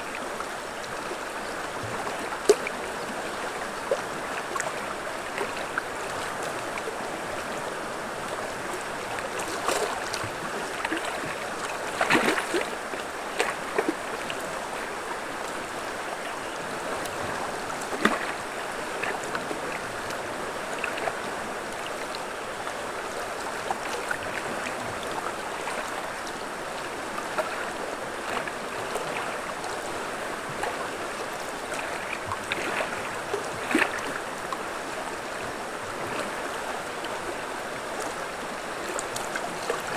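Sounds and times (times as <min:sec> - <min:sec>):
river water rushing over rocks: 0:00.0 - 0:39.9
water splashes: 0:00.0 - 0:39.9.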